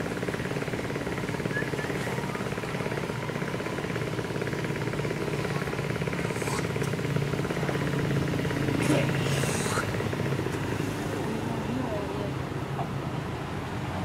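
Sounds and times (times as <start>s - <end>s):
motor running with pulsing beat: 0.0s - 13.0s.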